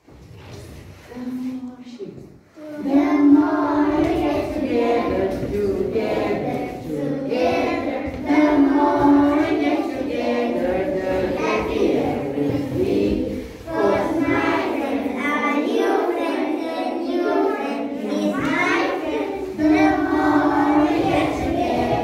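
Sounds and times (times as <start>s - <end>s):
children singing: 2.7s - 22.0s.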